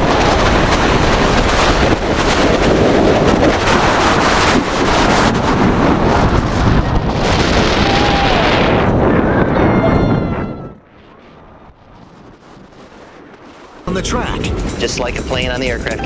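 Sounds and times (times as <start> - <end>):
roller coaster train speeding: 0.0 - 11.9, 13.6 - 16.0
wind rushing over microphone: 0.0 - 16.0.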